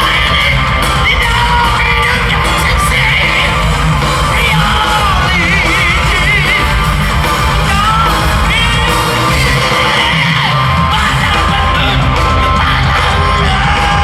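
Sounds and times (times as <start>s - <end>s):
lead guitar line with vibrato: 0.0s - 14.0s
rock band playing live: 0.0s - 14.0s.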